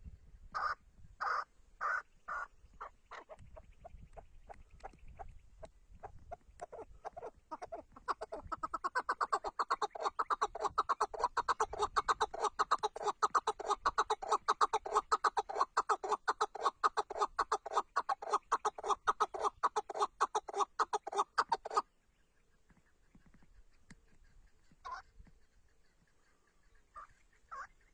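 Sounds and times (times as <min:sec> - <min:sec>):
partridge clucking call: 0:00.6 - 0:21.9, 0:22.7 - 0:27.9.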